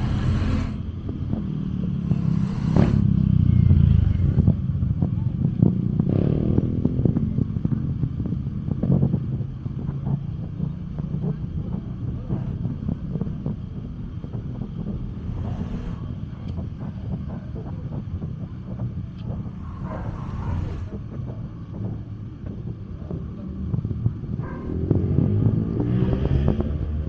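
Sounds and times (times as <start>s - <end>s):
low rumble of traffic: 0.0s - 27.0s
wind on microphone: 0.0s - 27.0s.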